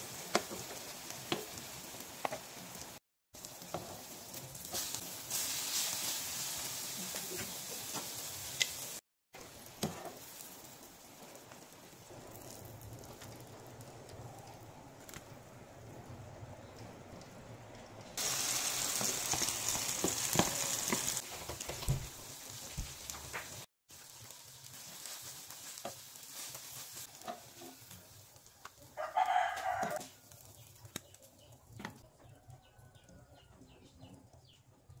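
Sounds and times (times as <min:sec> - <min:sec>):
fritters sizzling in oil: 0:00.0 - 0:13.5, 0:18.2 - 0:33.5.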